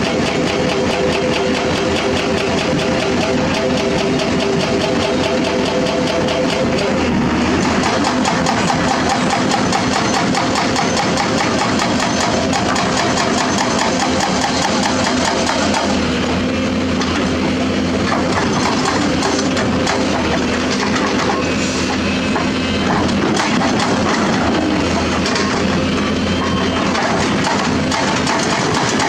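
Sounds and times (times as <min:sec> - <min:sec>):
fast even engine clatter: 0:00.0 - 0:16.3, 0:16.9 - 0:29.0
excavator diesel engine drone: 0:00.0 - 0:29.0.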